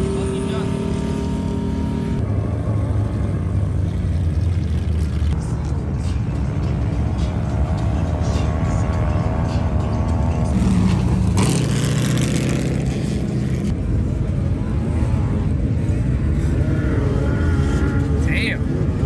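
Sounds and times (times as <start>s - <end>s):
off-road vehicle engines running: 0.0s - 19.0s.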